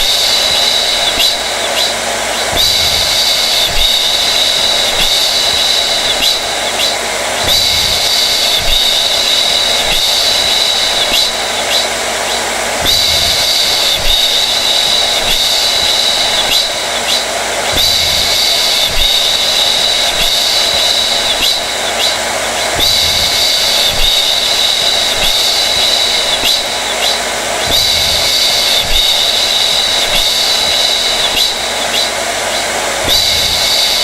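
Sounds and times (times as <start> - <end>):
hair dryer running: 0.0 - 34.0.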